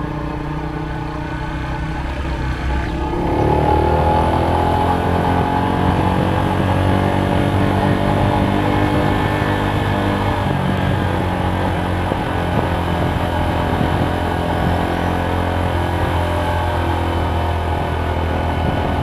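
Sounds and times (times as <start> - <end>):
engine revving and running: 0.0 - 19.0.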